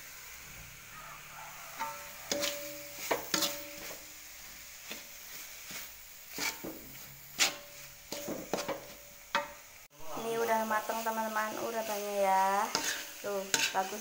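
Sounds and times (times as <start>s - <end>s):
metal spoon scraping a wok: 1.6s - 9.6s, 10.8s - 14.0s.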